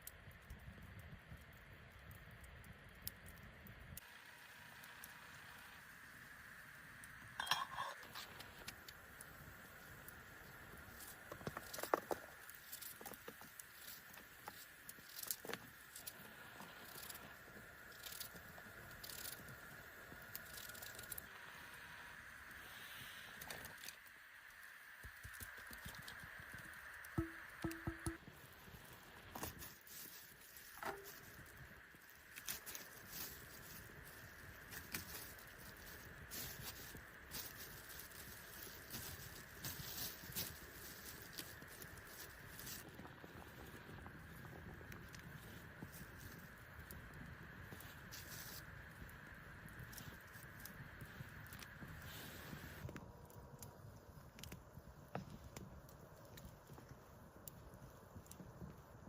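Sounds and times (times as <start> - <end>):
steady hiss: 0.0 - 59.0
wood fire crackling and popping: 0.0 - 59.0.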